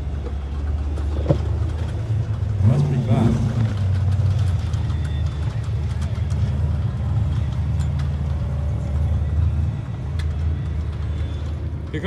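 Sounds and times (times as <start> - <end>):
buggy engine running at low revs: 0.0 - 12.0.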